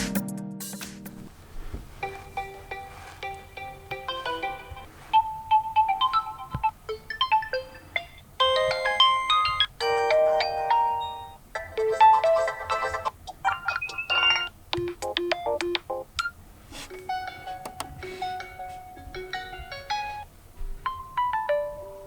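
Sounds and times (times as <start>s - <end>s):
phone ringtone melodies: 2.1s - 16.1s, 17.0s - 20.3s, 21.1s - 22.0s.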